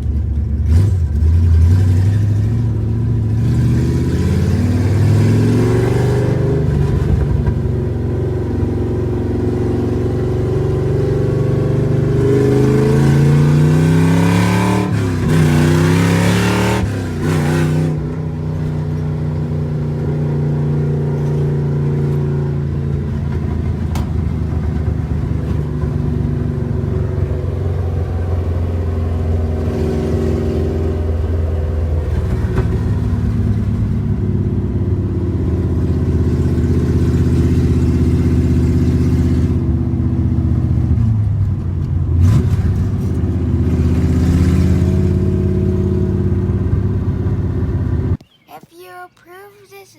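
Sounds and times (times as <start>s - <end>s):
car engine revving through gears: 0.6s - 48.2s.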